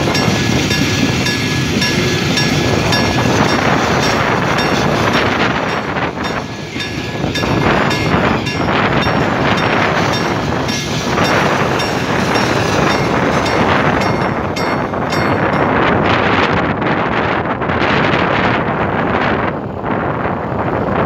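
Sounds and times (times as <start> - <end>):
freight train wheels rumbling on rail: 0.0 - 21.0
wind buffeting microphone: 0.0 - 21.0.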